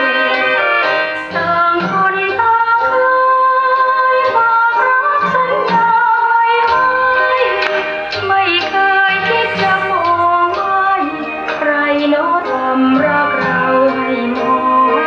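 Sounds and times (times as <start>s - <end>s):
recorded song through loudspeaker: 0.0s - 15.0s.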